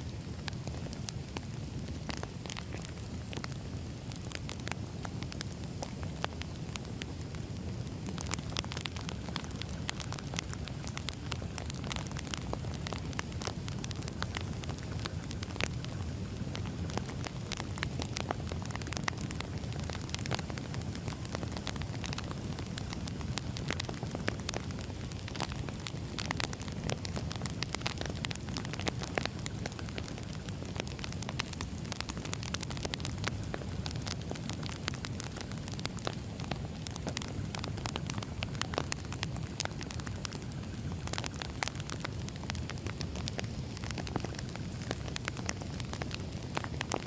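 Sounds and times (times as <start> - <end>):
low rumble of burning logs: 0.0 - 47.0
fire pops and snaps: 0.1 - 47.0.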